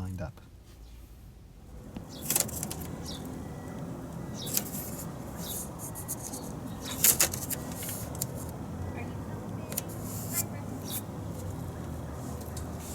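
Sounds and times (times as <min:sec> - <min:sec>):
low background rumble: 0:00.5 - 0:12.9.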